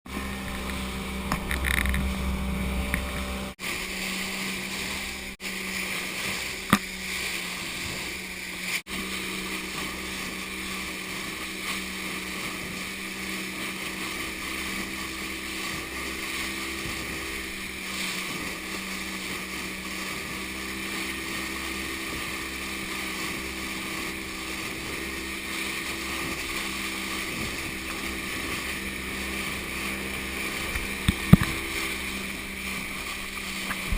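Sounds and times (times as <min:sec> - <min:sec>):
motorboat engine humming: 0:00.0 - 0:33.9.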